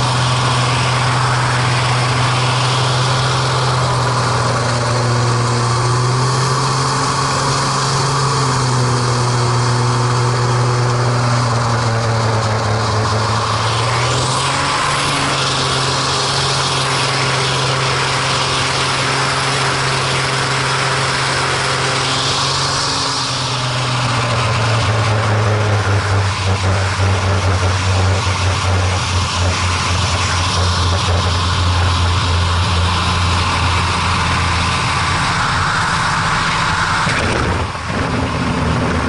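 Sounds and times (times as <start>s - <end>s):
rush of air: 0.0s - 6.0s, 11.2s - 39.0s
aircraft engine and propeller: 0.0s - 39.0s.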